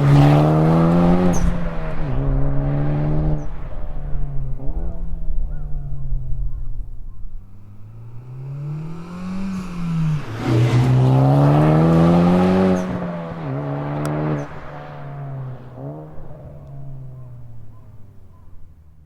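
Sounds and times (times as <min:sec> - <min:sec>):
car exhaust revving: 0:00.0 - 0:18.4.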